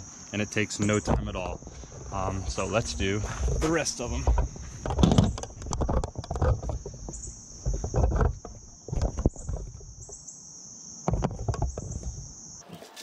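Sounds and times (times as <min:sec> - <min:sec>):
insects chirping: 0:00.0 - 0:13.0
dull knocks and bumps: 0:00.9 - 0:10.2, 0:11.0 - 0:12.3.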